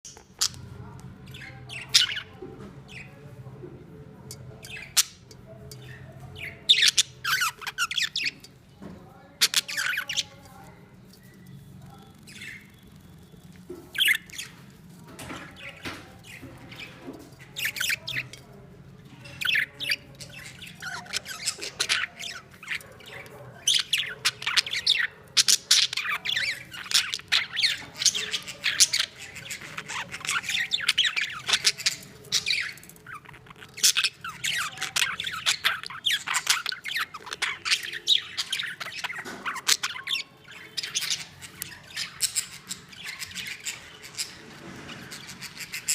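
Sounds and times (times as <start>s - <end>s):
budgies chirping and squawking: 0.1s - 45.9s.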